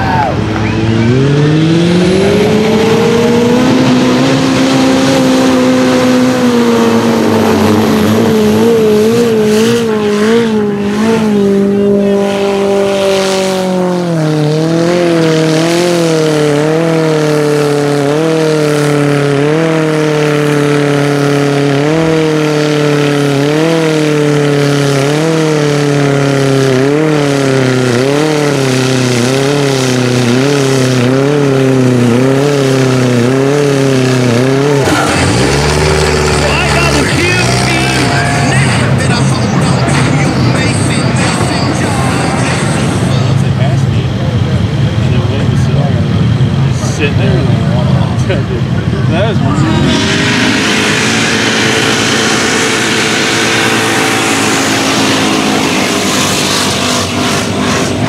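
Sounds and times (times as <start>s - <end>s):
buggy engine revving: 0.0s - 58.0s
tires churning water: 0.0s - 58.0s.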